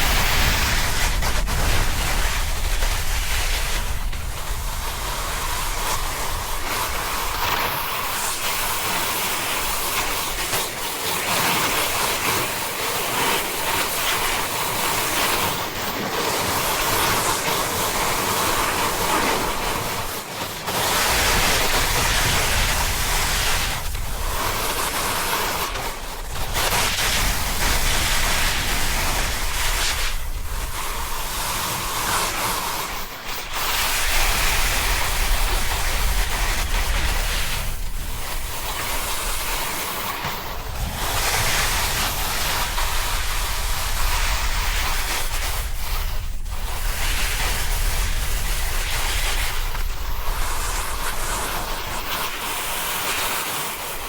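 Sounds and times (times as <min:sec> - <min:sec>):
snowboard scraping on snow: 0:00.0 - 0:54.0
wind on microphone: 0:00.0 - 0:54.0.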